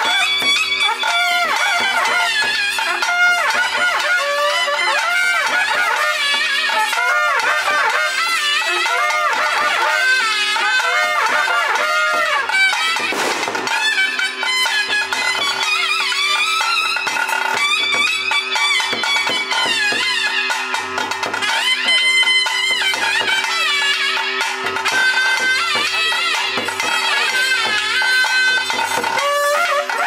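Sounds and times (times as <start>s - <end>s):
drum beats: 0.0s - 30.0s
reed wind instrument melody: 0.0s - 30.0s
two-note drone: 0.0s - 30.0s.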